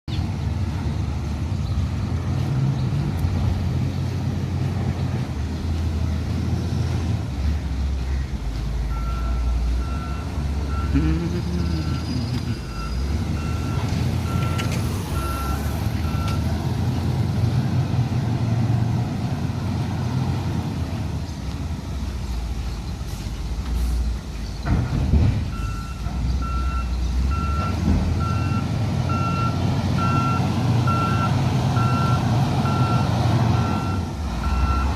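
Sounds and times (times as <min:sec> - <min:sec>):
large vehicle engine rumble: 0:00.1 - 0:34.9.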